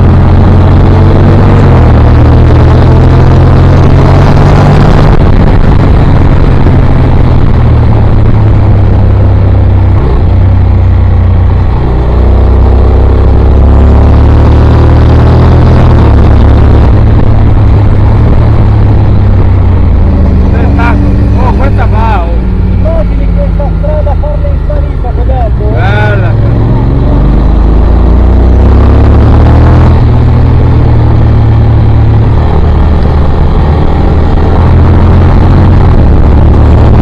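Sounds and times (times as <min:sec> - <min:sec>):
motorcycle engine at speed: 0:00.0 - 0:37.0.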